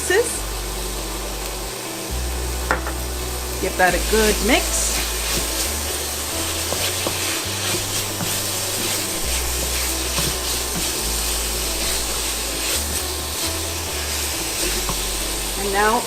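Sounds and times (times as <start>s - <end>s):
background music with bass: 0.0s - 16.0s
chicken sizzling in pan: 0.0s - 16.0s.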